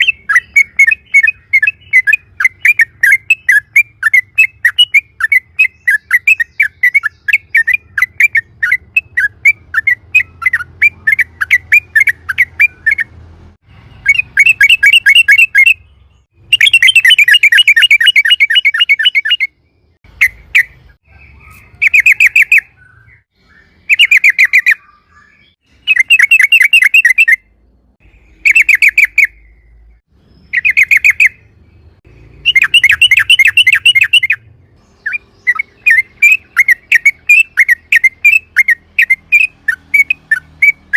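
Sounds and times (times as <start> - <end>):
bird chattering notes: 0.0 - 13.2, 14.0 - 15.8, 16.4 - 27.4, 30.4 - 31.5, 32.2 - 40.9.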